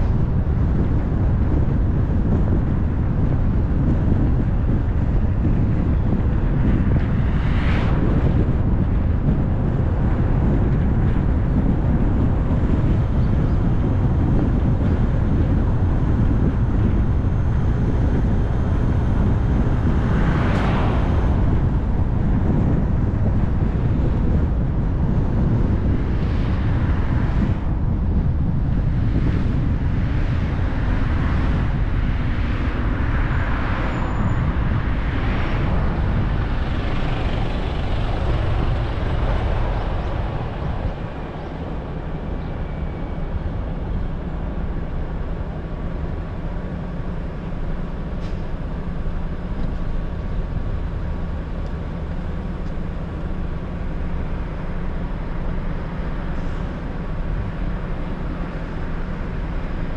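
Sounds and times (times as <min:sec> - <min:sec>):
tyre and road noise: 0:00.0 - 0:59.9
wind: 0:00.0 - 0:59.9.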